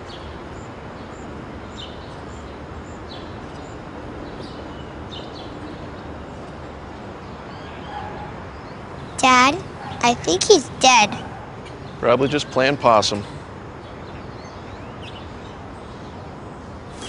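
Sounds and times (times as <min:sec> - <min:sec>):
low background noise: 0:00.0 - 0:17.0
small birds chirping: 0:00.0 - 0:17.0.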